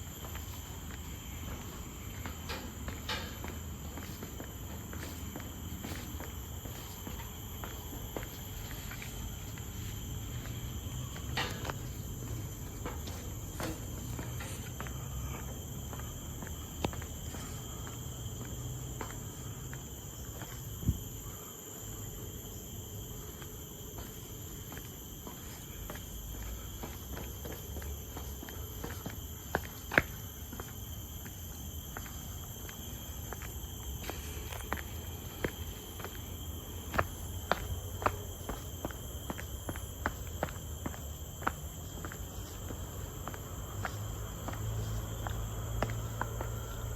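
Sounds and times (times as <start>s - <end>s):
footsteps walking: 0.0s - 21.9s, 23.1s - 46.9s
insects droning: 0.0s - 46.9s.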